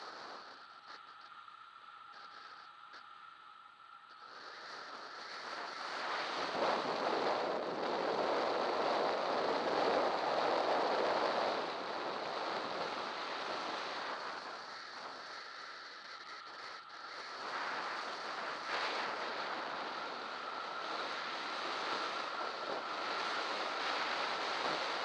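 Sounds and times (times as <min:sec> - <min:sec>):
wind rushing over microphone: 0:04.8 - 0:25.0.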